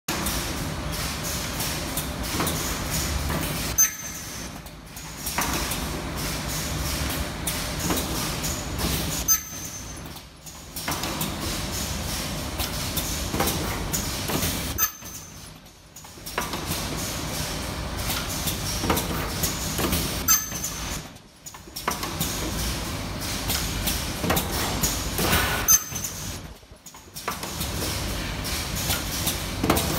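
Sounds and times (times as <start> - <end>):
machine running noise: 0.1 - 29.9.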